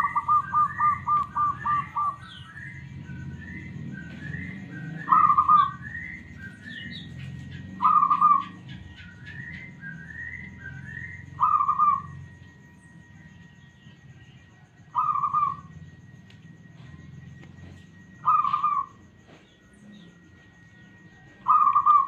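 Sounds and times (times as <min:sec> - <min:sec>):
dove trilled cooing: 0:00.0 - 0:22.0.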